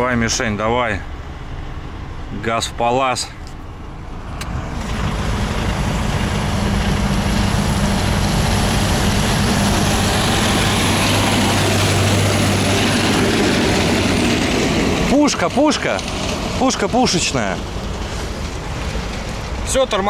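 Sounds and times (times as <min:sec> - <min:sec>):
truck diesel engine at full throttle: 0:00.0 - 0:20.0.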